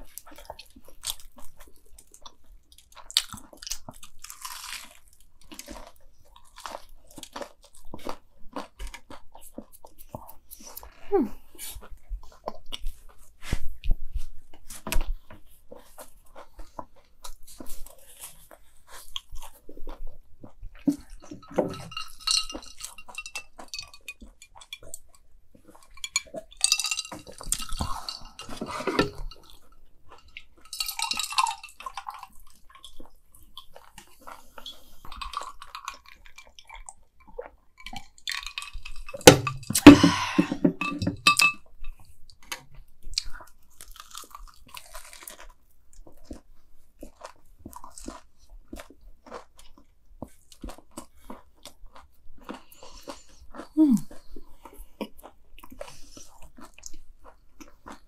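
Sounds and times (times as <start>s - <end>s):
crunching bites and chewing: 0.0s - 40.4s, 41.2s - 58.0s.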